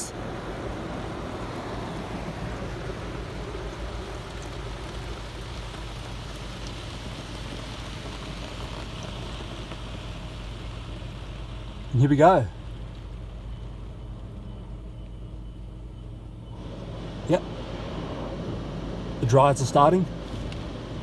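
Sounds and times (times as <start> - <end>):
low rumble of car wash machinery: 0.0 - 21.0
water spray hissing on car roof: 0.0 - 21.0.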